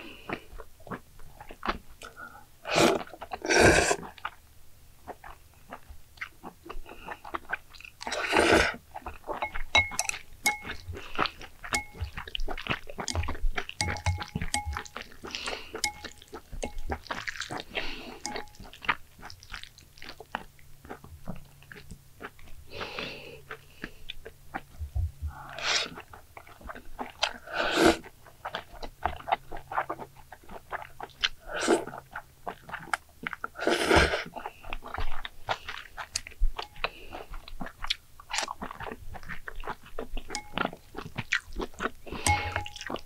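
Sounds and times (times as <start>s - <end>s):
person chewing noodles: 0.0s - 4.4s, 5.0s - 43.0s.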